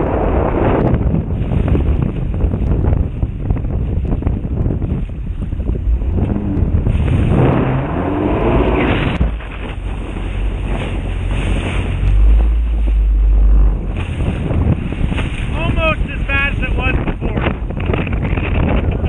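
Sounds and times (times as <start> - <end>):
jet ski engine: 0.0 - 19.0
wind buffeting microphone: 0.0 - 19.0.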